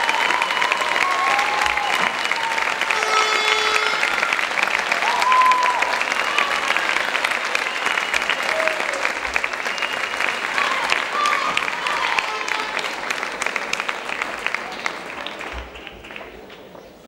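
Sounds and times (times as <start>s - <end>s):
high calls from audience: 0.0s - 16.3s
audience applauding: 0.0s - 16.8s.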